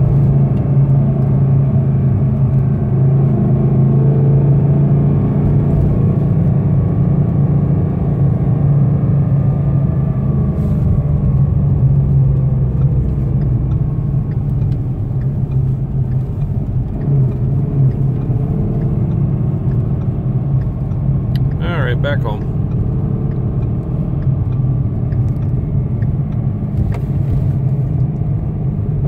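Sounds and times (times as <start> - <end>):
car engine and road drone: 0.0 - 29.0.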